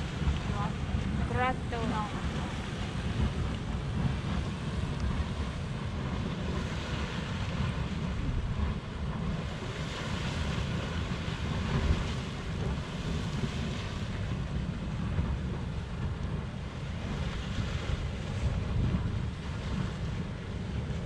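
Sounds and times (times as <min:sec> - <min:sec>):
geyser steam hissing: 0:00.0 - 0:21.0
wind buffeting microphone: 0:00.0 - 0:21.0.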